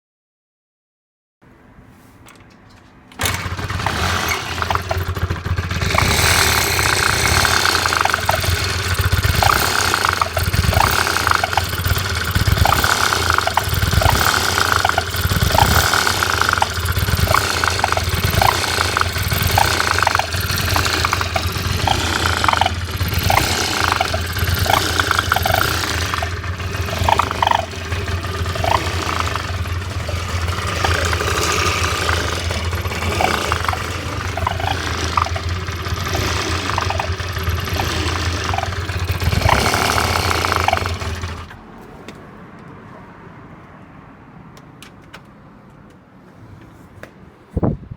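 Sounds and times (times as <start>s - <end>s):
scooter engine running: 3.1s - 41.7s.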